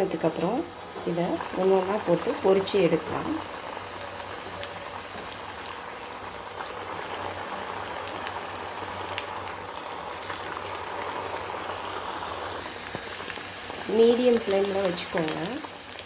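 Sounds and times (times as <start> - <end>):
snacks sizzling in hot oil: 0.1 - 16.0
oil crackling and popping: 0.4 - 16.0.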